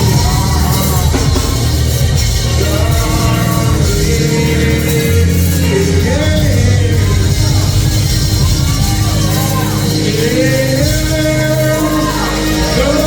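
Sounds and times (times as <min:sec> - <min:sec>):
church band with heavy bass: 0:00.0 - 0:13.0
person singing gospel: 0:00.0 - 0:13.0.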